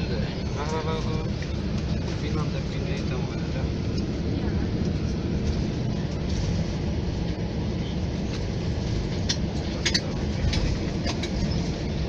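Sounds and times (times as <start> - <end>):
jet engine noise in cabin: 0.0 - 12.0
wheels rolling on taxiway: 0.0 - 12.0.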